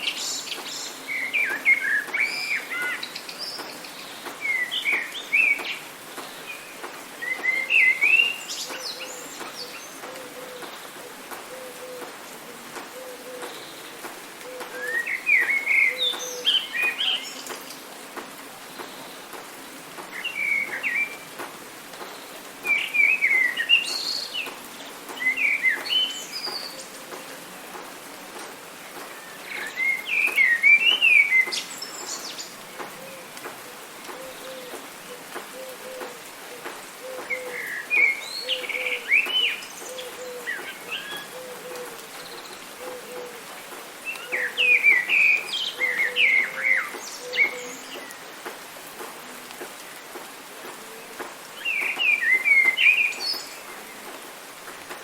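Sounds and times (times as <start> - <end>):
songbirds warbling: 0.0 - 18.0, 18.6 - 55.0
rain hiss: 0.0 - 55.0.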